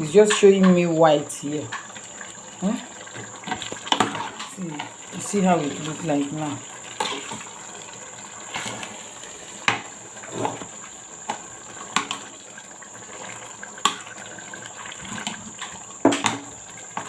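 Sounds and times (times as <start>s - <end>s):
soup cooking with liquid hiss: 0.0s - 17.0s.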